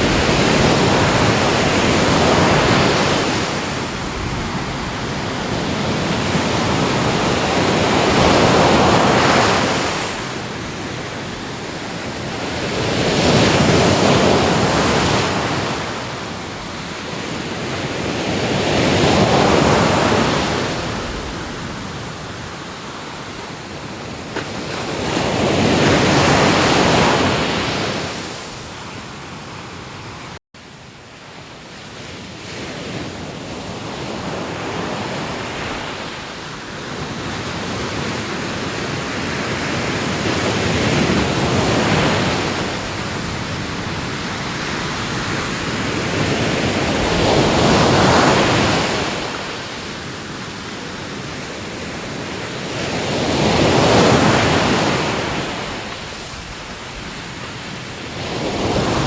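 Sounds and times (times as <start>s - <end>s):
sea waves breaking on shore: 0.0s - 30.4s, 31.2s - 59.0s.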